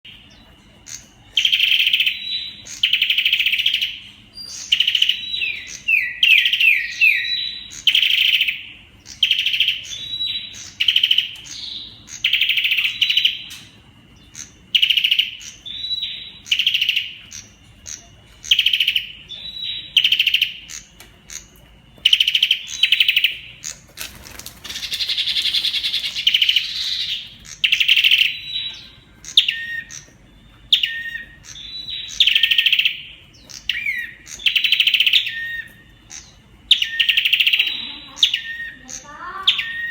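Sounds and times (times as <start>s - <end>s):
bird singing rattling phrases: 0.0s - 39.9s.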